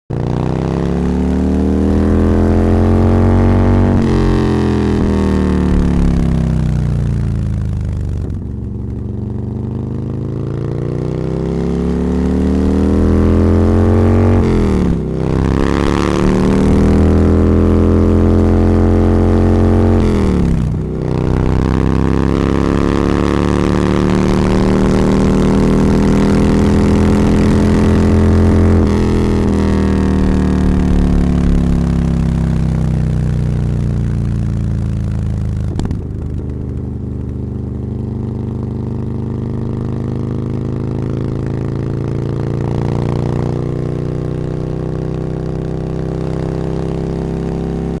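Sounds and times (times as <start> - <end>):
vehicle engine accelerating: 0.1 - 48.0.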